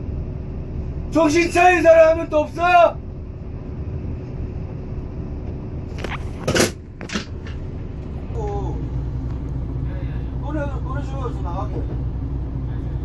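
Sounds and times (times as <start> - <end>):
coach engine low rumble: 0.0 - 13.0.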